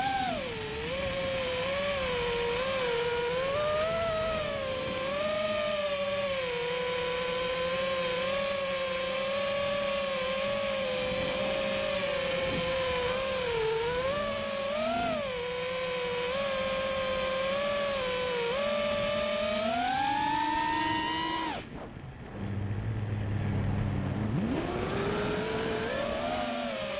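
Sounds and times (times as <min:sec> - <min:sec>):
quadcopter motors whining: 0:00.0 - 0:26.9.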